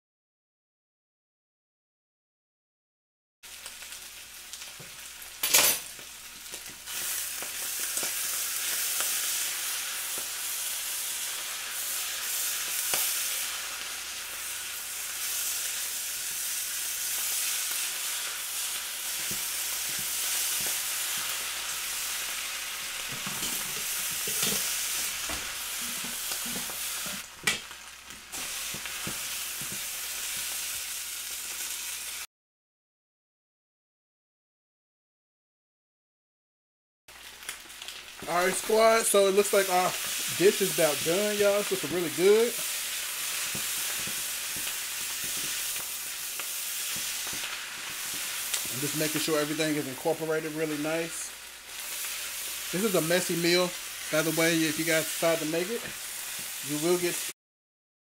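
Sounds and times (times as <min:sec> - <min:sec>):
rice sizzling in a wok: 0:03.4 - 0:32.3, 0:37.1 - 0:57.4.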